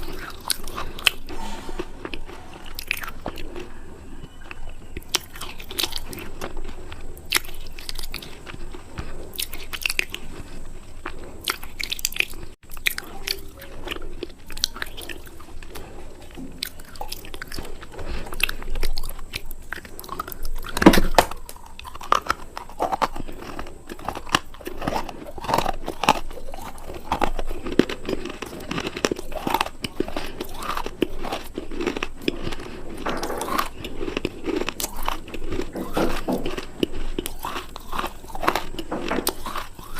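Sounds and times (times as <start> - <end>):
biting and crunching brittle food: 0.0 - 39.9
chewing: 0.0 - 39.9.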